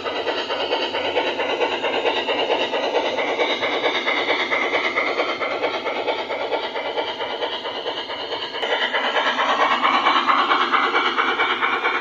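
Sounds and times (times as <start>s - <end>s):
model train wheels clattering on rails: 0.0s - 12.0s.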